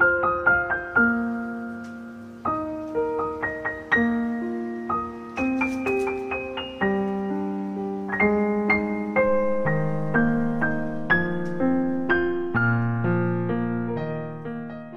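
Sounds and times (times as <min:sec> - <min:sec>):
slow solo piano: 0:00.0 - 0:14.9.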